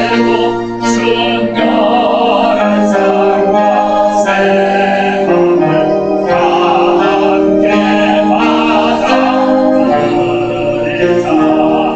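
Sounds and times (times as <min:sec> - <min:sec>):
choir singing a hymn: 0:00.0 - 0:11.9.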